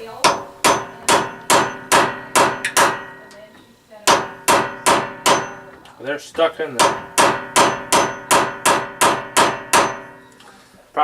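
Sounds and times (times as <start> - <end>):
hammer striking metal: 0.2 - 5.8, 6.8 - 10.4.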